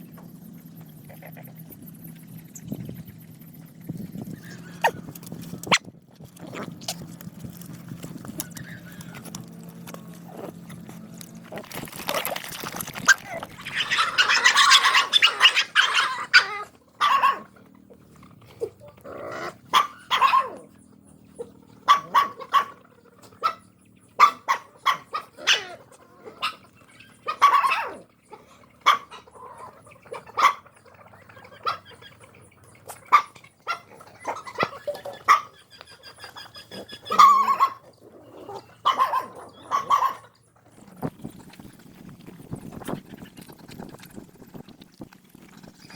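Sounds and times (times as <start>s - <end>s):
dogs yelping and barking: 0.0s - 5.9s, 6.5s - 44.7s.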